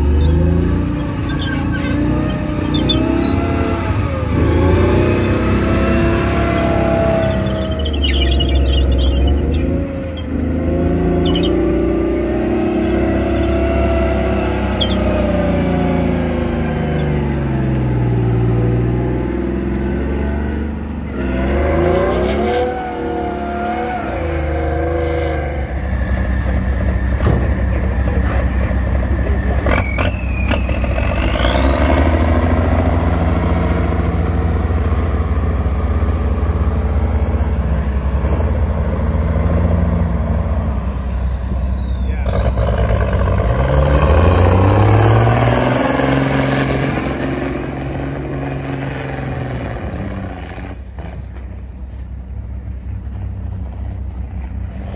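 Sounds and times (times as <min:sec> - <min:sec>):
army truck engine running: 0:00.0 - 0:21.6, 0:22.8 - 0:54.9
tank engine rising and falling: 0:00.0 - 0:54.9.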